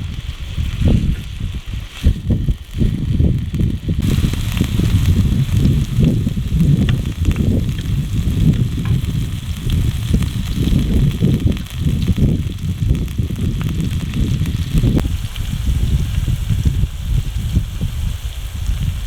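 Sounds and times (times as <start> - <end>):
meat sizzling in a pan: 0.0 - 19.0
low rumble: 2.3 - 19.0.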